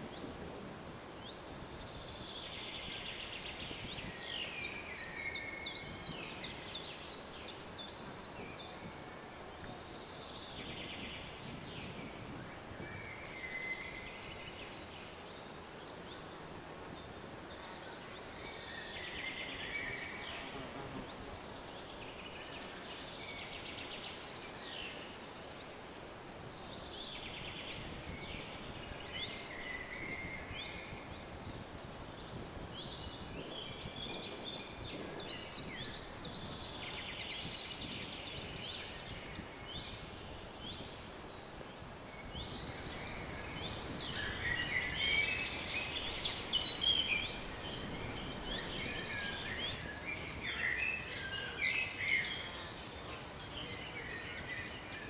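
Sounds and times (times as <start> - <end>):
wind in foliage: 0.0 - 55.0.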